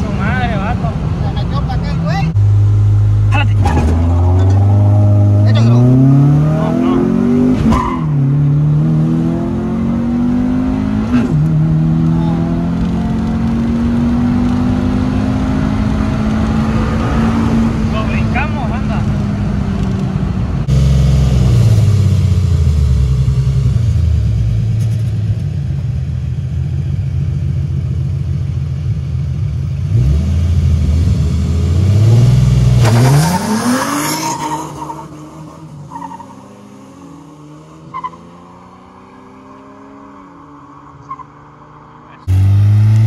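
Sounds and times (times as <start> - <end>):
car engine running hard: 0.0 - 35.7, 41.6 - 43.0
engine revving outside: 2.3 - 43.0.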